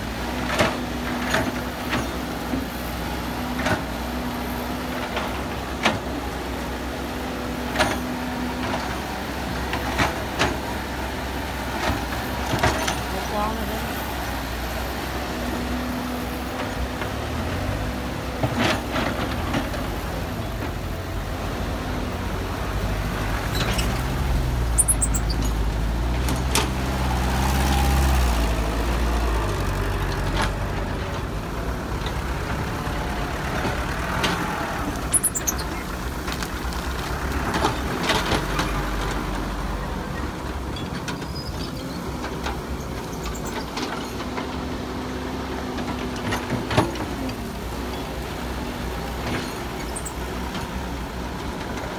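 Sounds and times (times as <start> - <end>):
diesel engines rumbling: 0.0 - 51.9.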